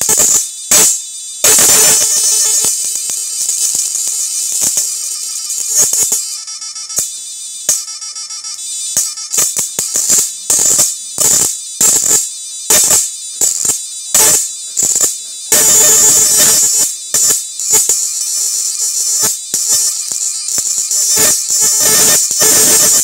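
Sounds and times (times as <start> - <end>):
buzzing electric arcing crackle: 0.0 - 23.0.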